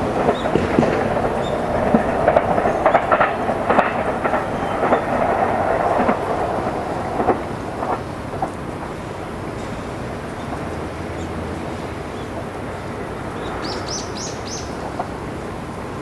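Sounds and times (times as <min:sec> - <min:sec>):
train rolling rumble: 0:00.0 - 0:16.0
wheels clacking over rail joints: 0:00.0 - 0:16.0.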